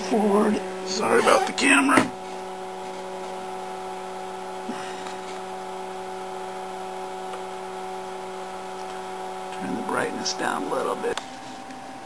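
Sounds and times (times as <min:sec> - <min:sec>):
oscilloscope humming: 0:00.0 - 0:12.0.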